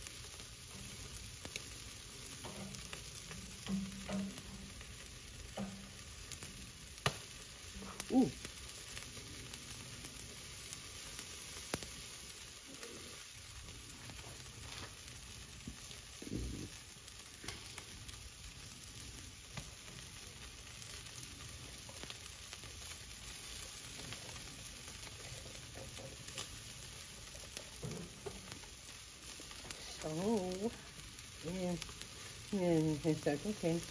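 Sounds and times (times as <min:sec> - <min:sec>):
meat sizzling on a grill: 0:00.0 - 0:33.9
small crackles: 0:00.0 - 0:33.9.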